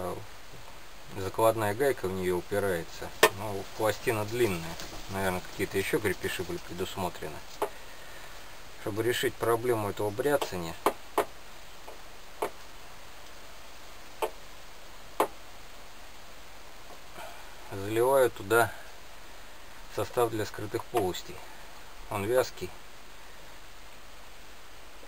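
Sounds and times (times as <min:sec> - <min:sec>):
low background hiss: 0:00.0 - 0:25.0.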